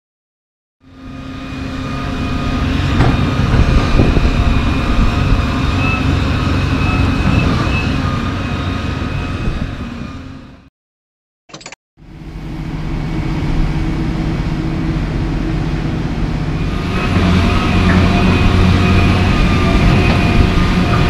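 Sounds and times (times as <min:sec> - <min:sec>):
heavy machinery engine running: 0:00.9 - 0:10.7, 0:11.6 - 0:21.0.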